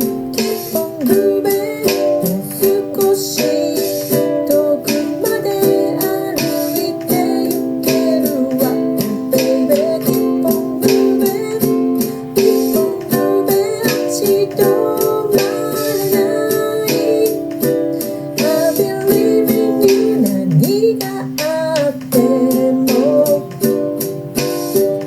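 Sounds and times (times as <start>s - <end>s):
ukulele strumming chords: 0.0s - 25.0s.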